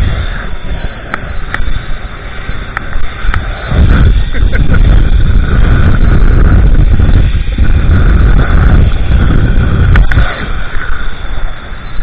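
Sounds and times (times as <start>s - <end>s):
wind rushing over microphone: 0.0s - 12.0s
zipline trolley whirring: 0.0s - 12.0s.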